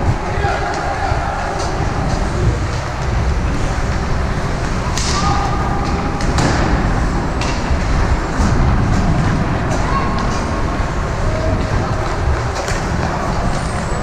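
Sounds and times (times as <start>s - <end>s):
low rumble: 0.0s - 14.0s
sticks and puck clacking: 0.3s - 14.0s.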